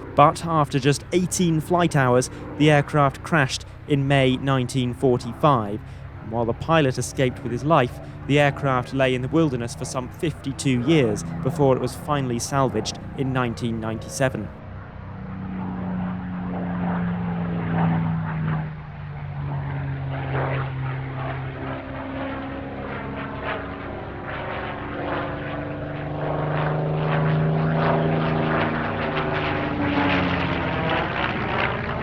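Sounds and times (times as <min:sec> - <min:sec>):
propeller plane engine passing: 0:00.0 - 0:32.0.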